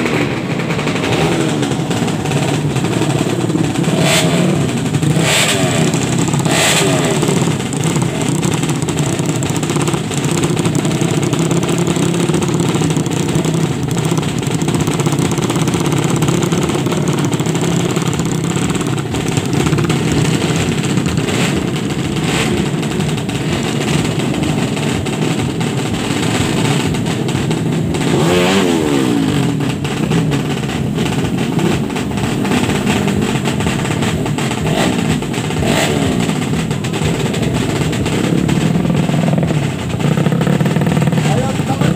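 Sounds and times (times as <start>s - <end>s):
motorcycle engines revving: 0.0s - 41.9s
sharp engine cracks: 0.0s - 41.9s.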